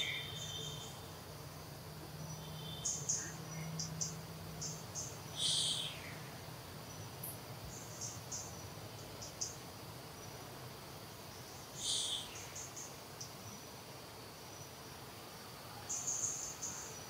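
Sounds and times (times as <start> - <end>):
buzzy high insect calls: 0.0 - 17.0
insects chirping: 0.0 - 17.0.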